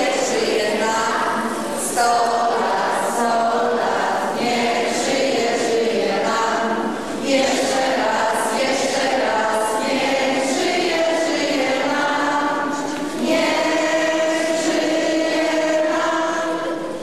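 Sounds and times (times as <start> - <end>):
choir singing in reverberant hall: 0.0 - 17.0.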